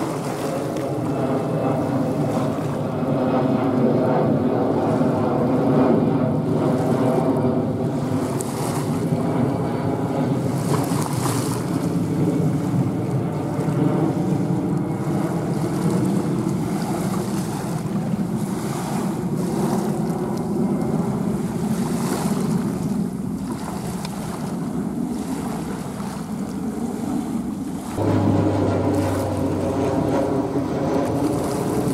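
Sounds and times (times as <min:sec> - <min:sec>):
jet engine roar: 0:00.0 - 0:31.9.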